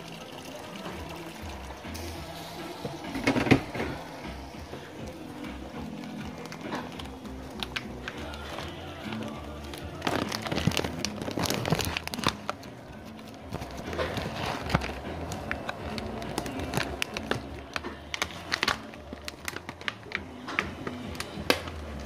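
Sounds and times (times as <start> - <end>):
food frying in a pan: 0.0 - 22.0.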